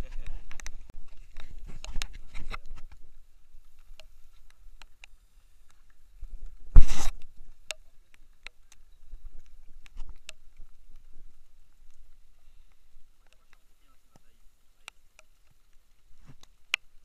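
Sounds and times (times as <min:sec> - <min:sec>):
raindrops tapping on camera: 0:00.0 - 0:17.0.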